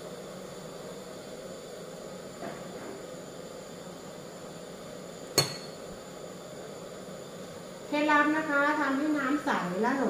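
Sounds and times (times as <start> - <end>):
pot hissing on stove: 0.0 - 10.0.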